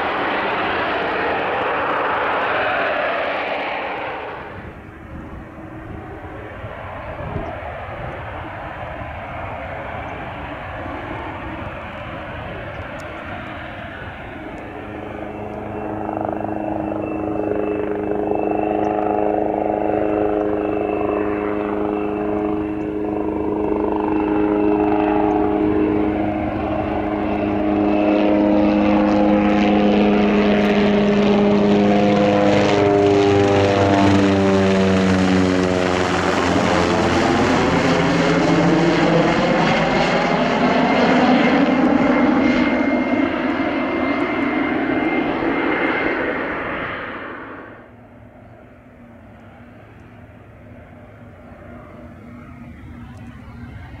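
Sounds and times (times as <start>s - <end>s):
propeller airplane flying over: 0.0s - 54.0s.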